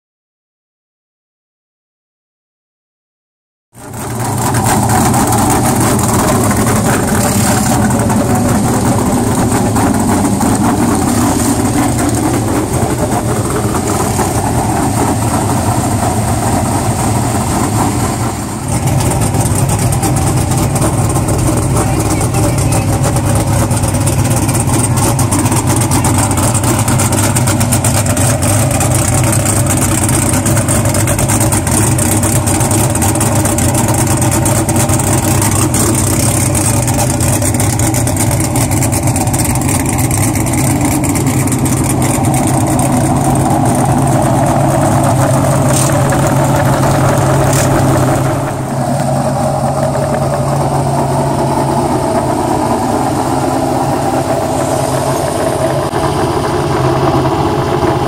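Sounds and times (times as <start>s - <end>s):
race car engine idling loudly: 3.7s - 58.0s.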